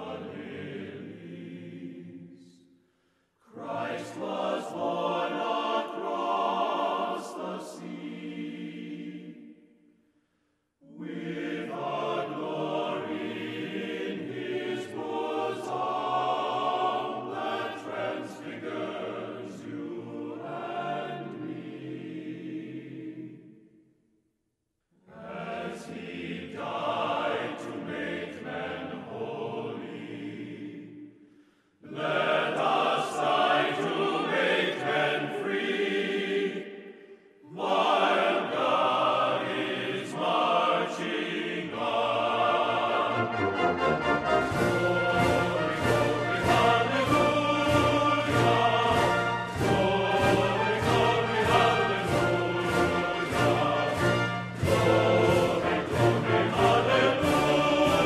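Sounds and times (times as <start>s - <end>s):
choir singing: 0.0s - 2.8s, 3.4s - 9.9s, 10.8s - 23.8s, 25.0s - 58.0s.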